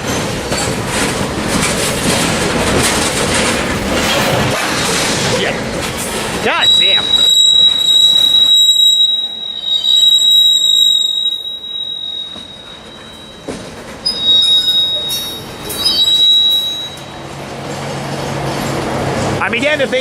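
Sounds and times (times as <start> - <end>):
train wheels squealing on rails: 0.0 - 18.9.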